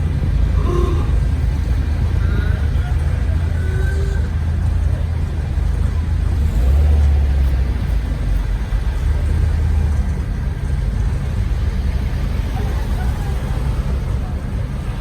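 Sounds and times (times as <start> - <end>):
car engine rumbling past: 0.0 - 15.0.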